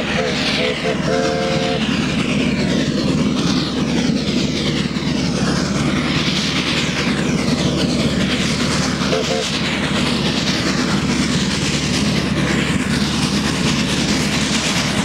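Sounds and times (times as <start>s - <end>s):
steam locomotive exhaust beating: 0.0s - 15.0s.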